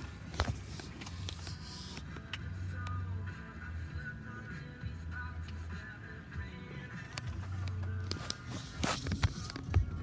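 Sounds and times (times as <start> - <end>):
music from a radio: 0.0 - 10.0.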